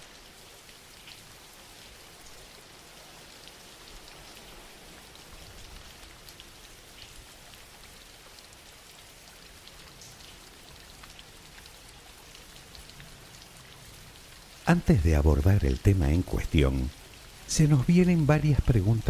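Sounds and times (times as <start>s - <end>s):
gentle rain hiss: 0.0s - 19.0s
raindrops pattering on a surface: 0.0s - 19.0s.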